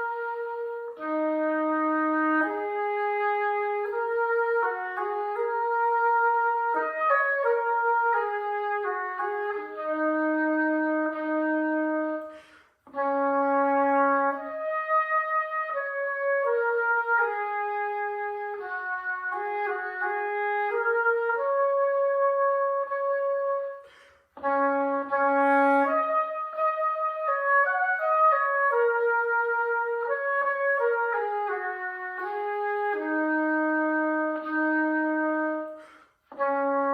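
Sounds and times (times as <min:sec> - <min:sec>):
solo oboe melody: 0:00.0 - 0:36.9.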